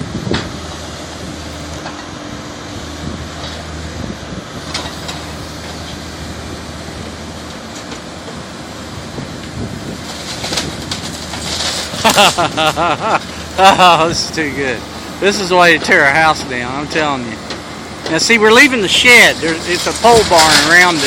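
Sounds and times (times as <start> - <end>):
backhoe engine running: 0.0 - 21.0.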